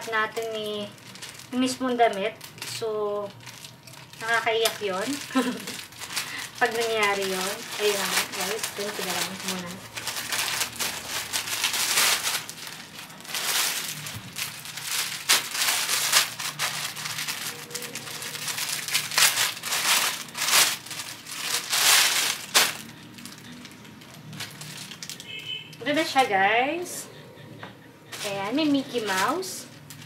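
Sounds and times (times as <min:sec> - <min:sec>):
plastic pouch tearing: 0:00.0 - 0:25.6
plastic packaging crinkling: 0:00.0 - 0:26.2, 0:28.1 - 0:30.0.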